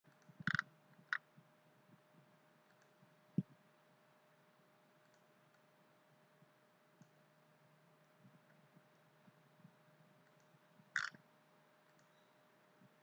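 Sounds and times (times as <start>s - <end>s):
faint steady hum: 0.1s - 13.0s.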